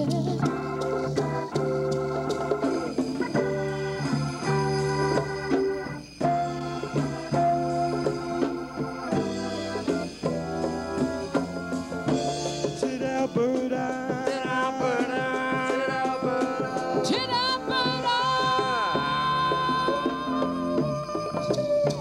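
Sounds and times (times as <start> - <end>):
drums and percussion: 0.0 - 22.0
live band playing: 0.0 - 22.0.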